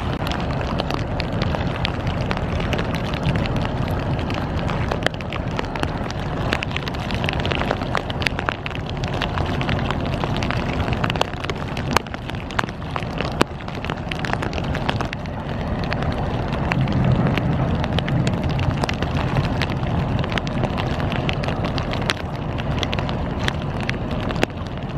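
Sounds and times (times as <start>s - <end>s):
rain drops ticking: 0.0s - 24.9s
wind buffeting microphone: 0.0s - 24.9s.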